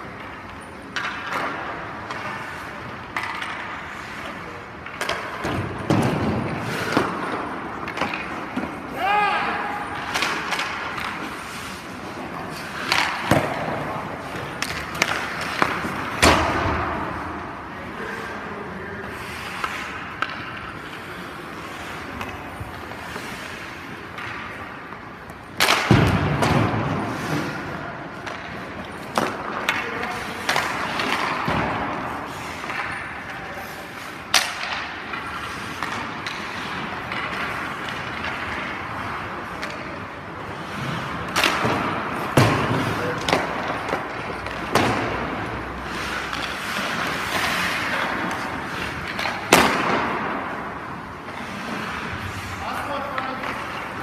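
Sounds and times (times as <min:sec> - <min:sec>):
skates scraping on ice: 0:00.0 - 0:54.0.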